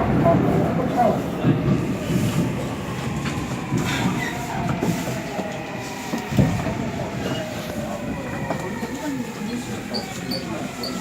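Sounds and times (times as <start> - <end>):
subway train wheel noise: 0.0 - 11.0.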